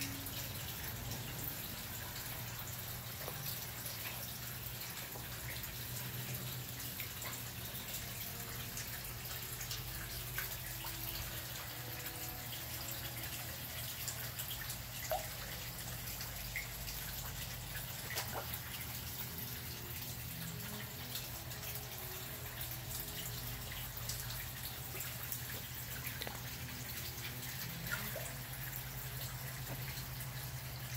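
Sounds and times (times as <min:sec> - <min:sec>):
water dripping and trickling: 0:00.0 - 0:30.9.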